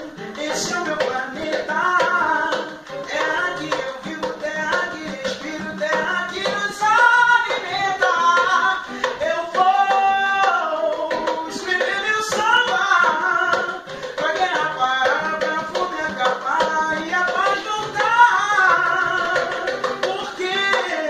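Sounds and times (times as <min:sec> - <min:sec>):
hand drum struck: 0:00.0 - 0:21.0
man singing: 0:00.0 - 0:21.0
strummed classical guitar: 0:00.0 - 0:21.0.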